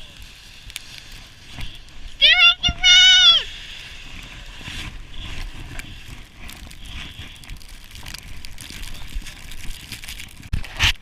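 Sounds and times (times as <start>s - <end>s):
crunching and scraping in snow: 0.0s - 11.0s
wind rumbling on microphone: 0.0s - 11.0s.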